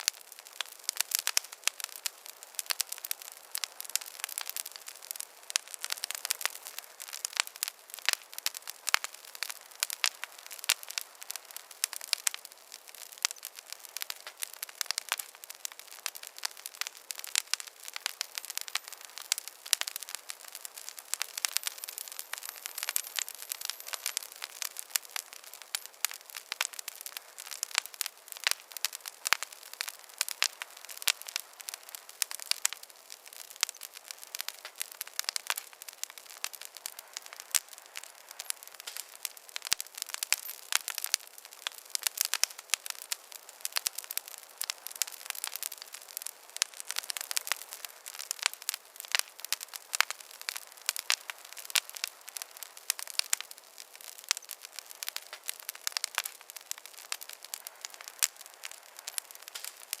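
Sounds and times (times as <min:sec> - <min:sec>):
soft hiss: 0:00.0 - 1:00.0
wood fire crackling: 0:00.0 - 1:00.0.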